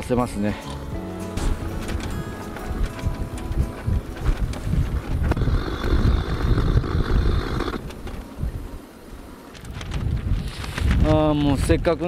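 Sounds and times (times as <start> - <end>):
gusty wind on microphone: 1.5 - 12.0.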